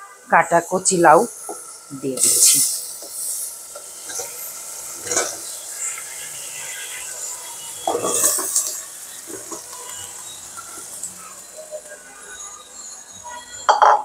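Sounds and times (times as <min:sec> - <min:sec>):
spice paste sizzling: 0:00.4 - 0:13.7.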